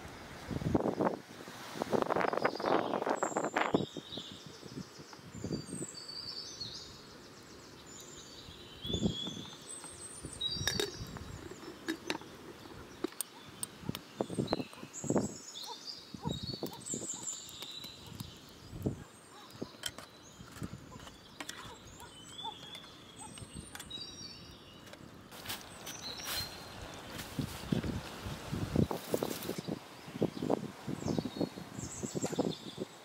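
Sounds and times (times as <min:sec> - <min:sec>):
birds chirping: 0:02.1 - 0:28.1, 0:28.8 - 0:33.0.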